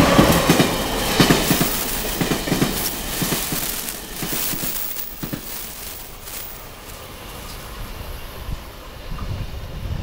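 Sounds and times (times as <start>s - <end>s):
train wheels clicking over rails: 0.0s - 9.3s
train rumble: 0.0s - 10.0s.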